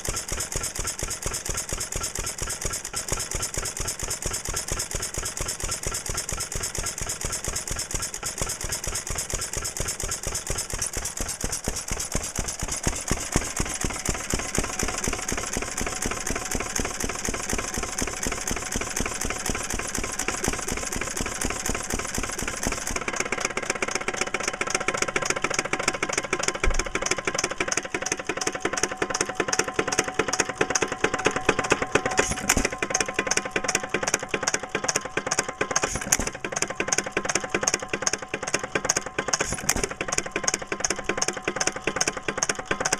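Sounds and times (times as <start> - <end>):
stationary engine running: 0.0 - 42.9.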